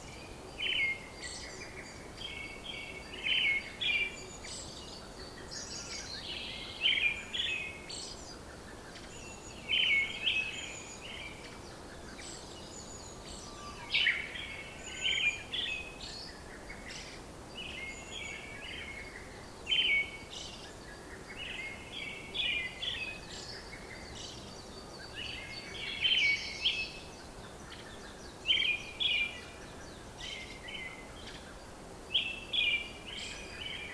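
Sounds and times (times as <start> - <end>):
birds chirping: 0.0 - 33.9
faint steady hiss: 0.0 - 33.9.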